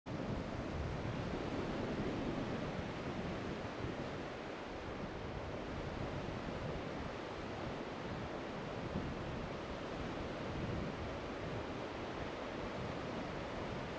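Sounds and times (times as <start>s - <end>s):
ocean waves breaking: 0.1s - 13.9s
wind on microphone: 0.1s - 13.9s.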